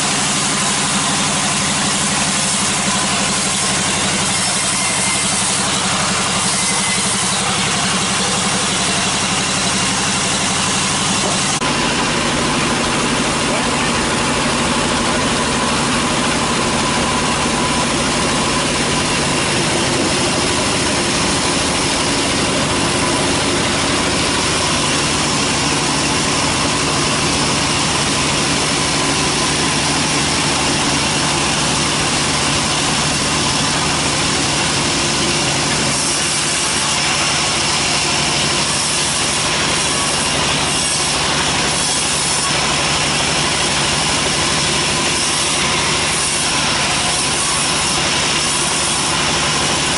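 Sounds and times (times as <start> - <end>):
band saw running: 0.0 - 49.9.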